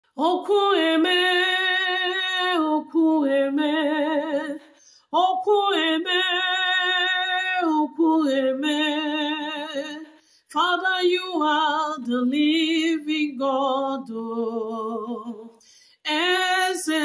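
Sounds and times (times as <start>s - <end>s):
woman singing gospel solo: 0.0s - 17.0s.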